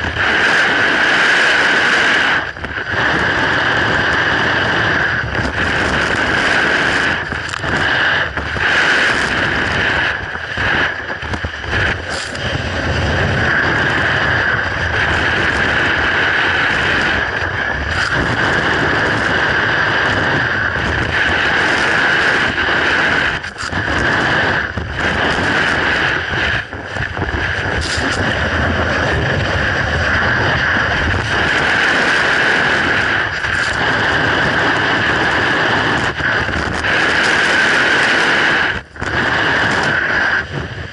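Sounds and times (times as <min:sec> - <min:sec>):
snowboard scraping on icy snow: 0:00.0 - 0:40.9
wind buffeting microphone: 0:00.0 - 0:40.9.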